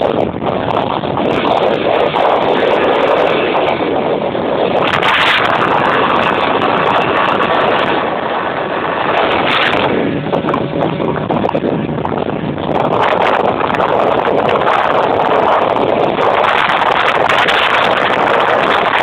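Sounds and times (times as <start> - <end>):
speedboat engine running: 0.0 - 19.0
wind and water rushing: 0.0 - 19.0.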